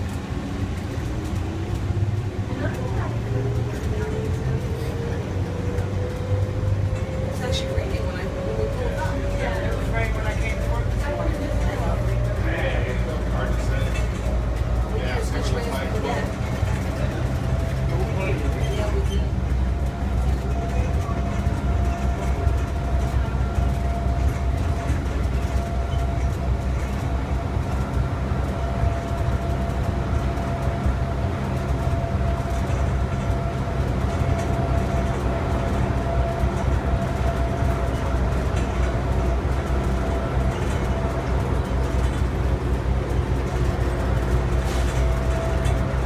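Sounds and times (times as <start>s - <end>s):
tram rumbling: 0.0s - 46.0s.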